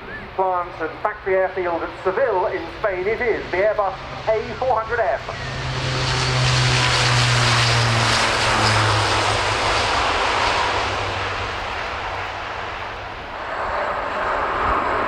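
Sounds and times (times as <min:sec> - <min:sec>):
turboprop aircraft taking off: 0:00.0 - 0:15.0.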